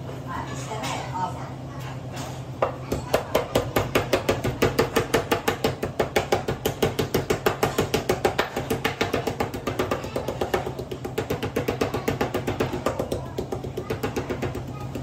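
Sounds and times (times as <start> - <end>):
meat mallet pounding: 2.9 - 15.0.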